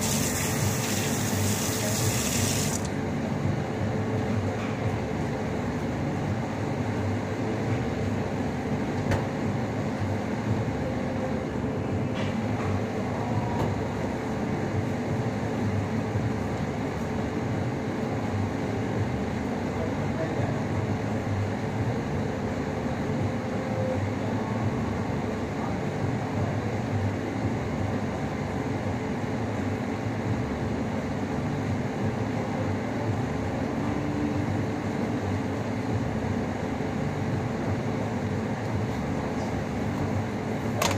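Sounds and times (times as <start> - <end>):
ventilation noise: 0.0 - 40.9.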